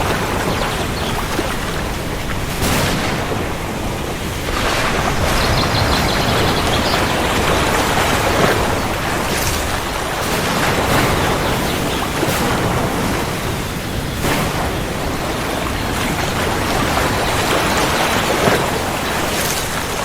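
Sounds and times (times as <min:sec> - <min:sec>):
heavy rain: 0:00.0 - 0:20.0
thunder rumbling: 0:00.0 - 0:20.0.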